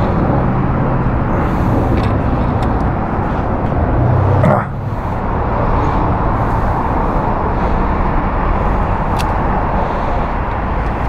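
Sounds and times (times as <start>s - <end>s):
low engine hum: 0.0s - 11.0s
traffic noise: 0.0s - 11.0s.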